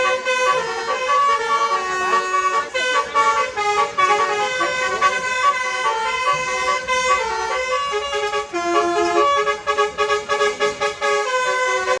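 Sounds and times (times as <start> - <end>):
multi-tone bus horn tune: 0.0 - 12.0.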